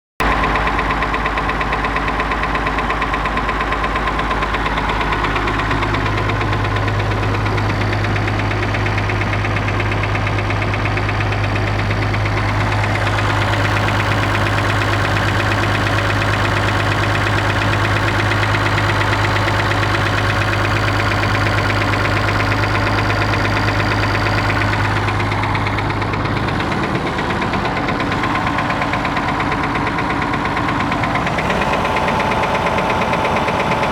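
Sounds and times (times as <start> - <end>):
marine diesel engine knocking: 0.2 - 33.9.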